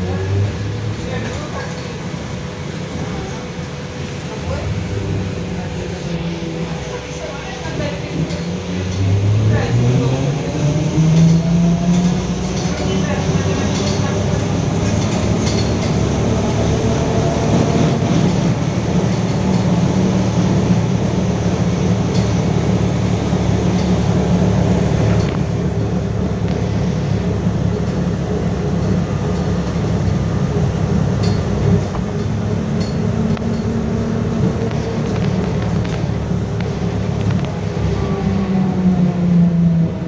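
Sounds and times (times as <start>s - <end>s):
traction motor hum: 0.0s - 39.7s
road noise: 0.0s - 40.0s.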